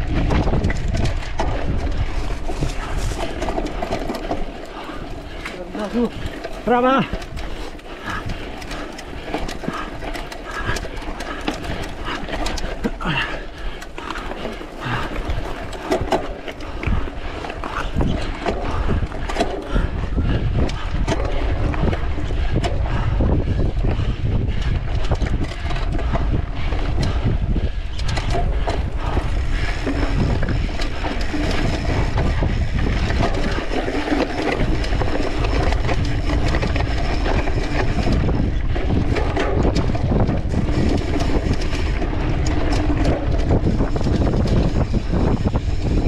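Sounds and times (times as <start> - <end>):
mountain bike rattling on trail: 0.0 - 46.0
wind buffeting microphone: 0.0 - 46.0.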